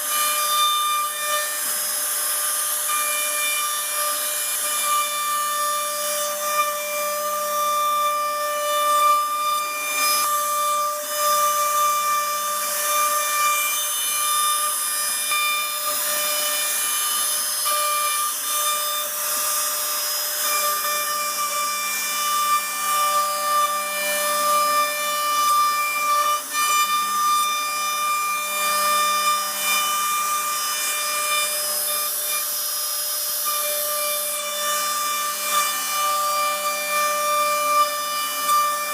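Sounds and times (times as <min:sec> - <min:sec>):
router spindle whining: 0:00.0 - 0:38.9.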